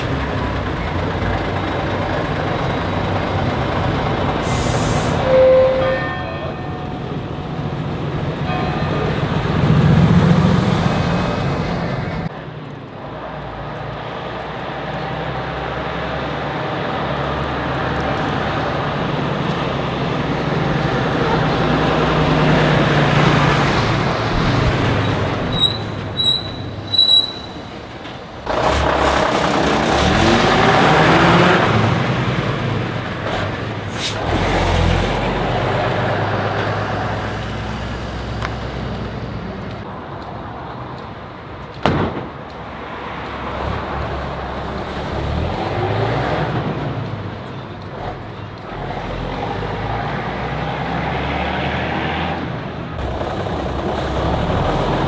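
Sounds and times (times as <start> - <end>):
bus diesel engine driving past: 0.0 - 41.6, 42.6 - 55.0.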